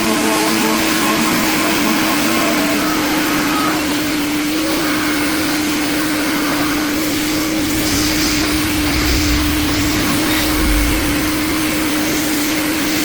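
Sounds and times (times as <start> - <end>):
machinery droning hum: 0.0 - 13.0
music: 0.0 - 13.0.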